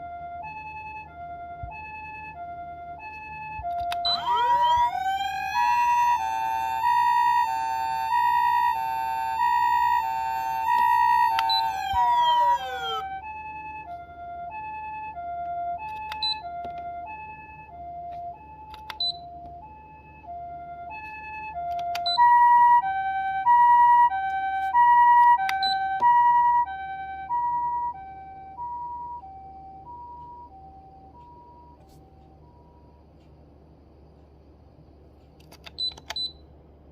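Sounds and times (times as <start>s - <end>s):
two-tone ambulance siren: 0.0s - 33.2s.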